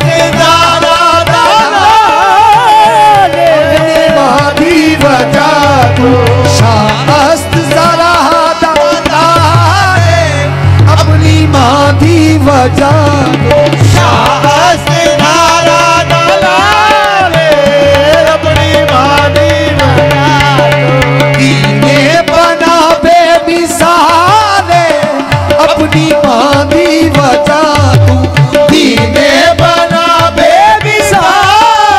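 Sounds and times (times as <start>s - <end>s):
harmonium: 0.0s - 31.9s
tabla drumming: 0.0s - 31.9s.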